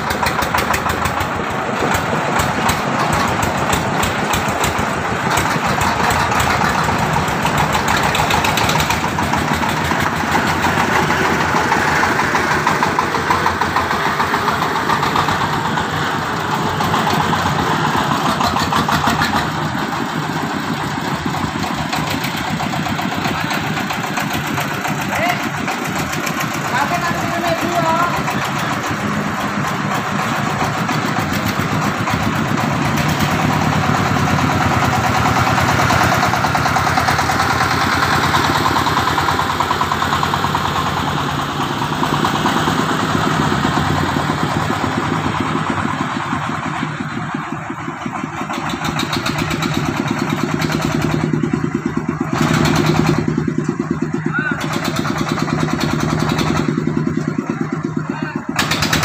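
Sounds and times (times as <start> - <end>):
engine chugging: 0.0 - 59.0
vehicle approaching: 0.0 - 59.0.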